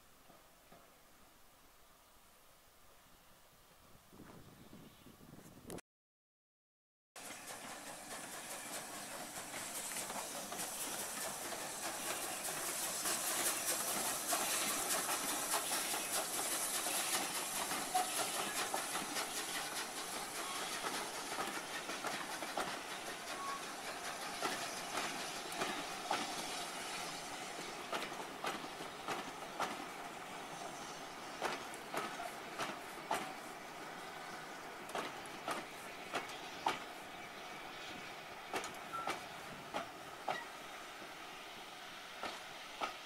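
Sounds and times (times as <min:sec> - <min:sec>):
coach wheels clicking over rail joints: 0:07.2 - 0:40.8, 0:42.1 - 0:43.0
steam hiss: 0:07.2 - 0:43.0.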